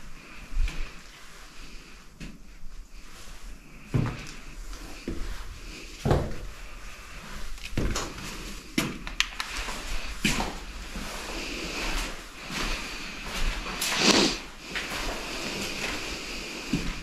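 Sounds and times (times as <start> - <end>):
footsteps on debris-strewn floor: 0.0 - 1.3, 2.2 - 17.0.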